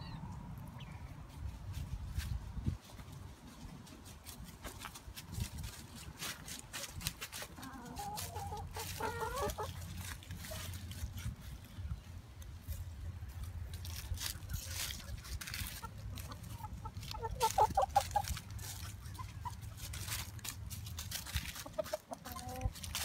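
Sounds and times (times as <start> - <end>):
rustling in dry leaves: 1.1 - 23.0
chickens clucking: 3.5 - 23.0.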